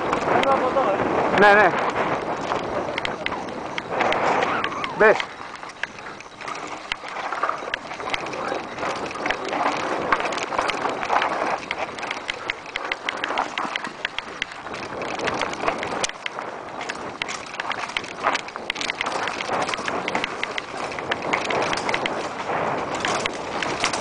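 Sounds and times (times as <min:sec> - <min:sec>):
bike rattling: 0:00.0 - 0:24.0
steady rushing noise: 0:00.0 - 0:24.0
tyres crunching over gravel: 0:01.7 - 0:24.0.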